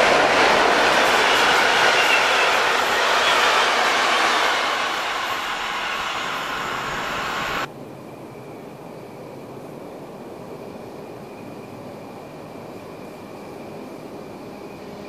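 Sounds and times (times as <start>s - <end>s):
passenger train rail noise: 0.0s - 15.0s
faint high whine: 1.6s - 15.0s.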